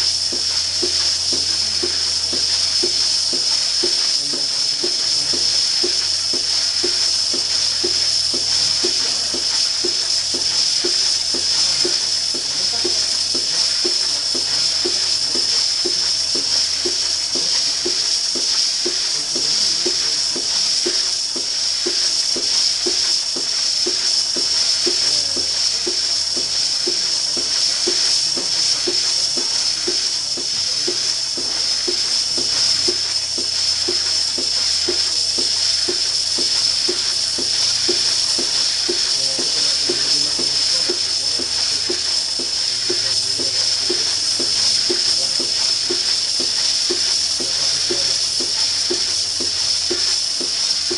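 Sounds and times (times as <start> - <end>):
rhythmic pulsing of milking machine: 0.0 - 50.9
vacuum hiss: 0.0 - 50.9.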